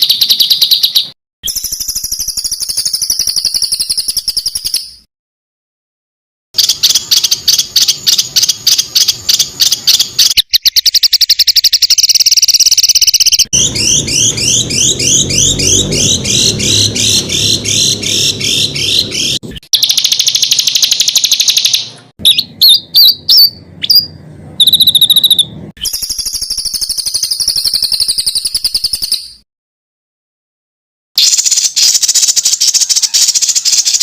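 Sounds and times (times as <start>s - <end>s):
songbird calls and trills: 0.0s - 5.1s, 6.6s - 29.4s, 31.2s - 34.0s.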